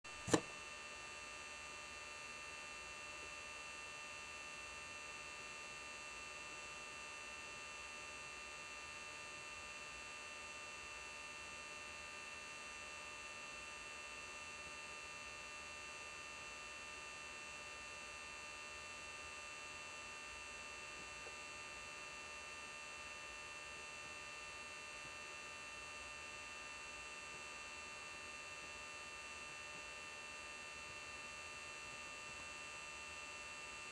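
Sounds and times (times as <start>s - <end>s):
electrical hum and whine: 0.1s - 33.9s.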